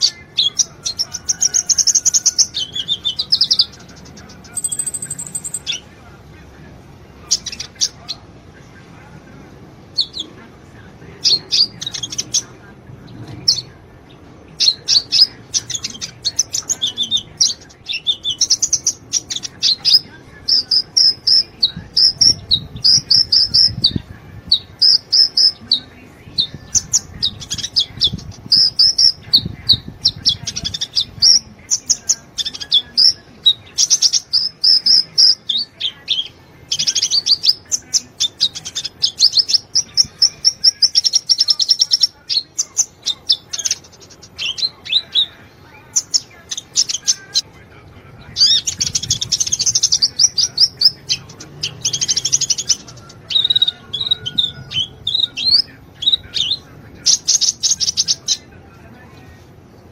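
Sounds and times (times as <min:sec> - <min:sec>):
sunbird chirping and trilling: 0:00.0 - 0:05.9, 0:11.2 - 0:12.6, 0:13.4 - 0:47.5, 0:48.4 - 0:58.5.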